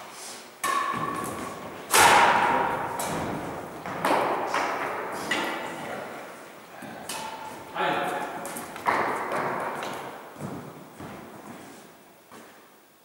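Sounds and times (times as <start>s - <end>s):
racket hitting shuttlecock: 0.6s - 11.5s.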